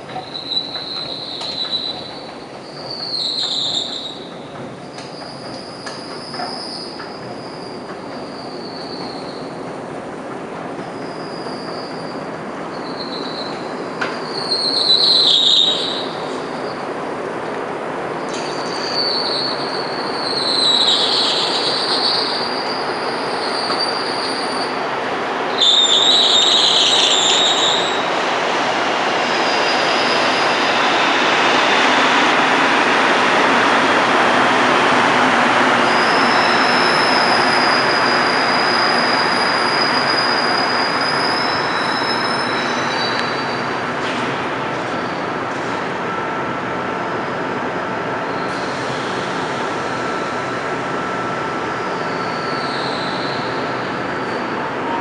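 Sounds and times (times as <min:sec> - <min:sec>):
high-pitched train squeals: 0:00.0 - 0:09.9, 0:10.6 - 0:17.2, 0:18.2 - 0:55.0
metro train rumble: 0:00.0 - 0:55.0.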